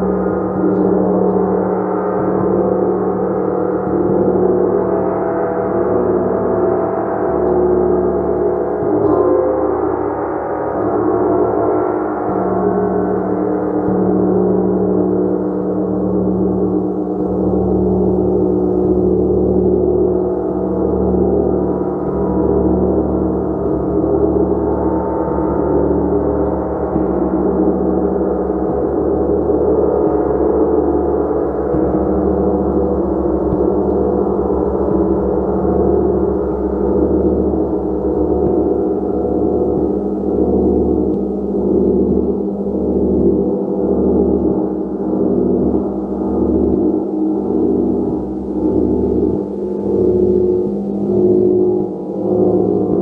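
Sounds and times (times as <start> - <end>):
gong sustained tones: 0.0 - 53.0.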